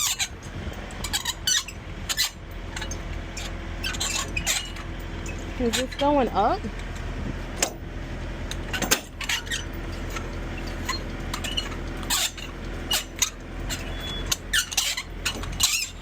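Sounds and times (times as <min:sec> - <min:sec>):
metal parts clinking and rattling: 0:00.0 - 0:06.6, 0:08.5 - 0:16.0.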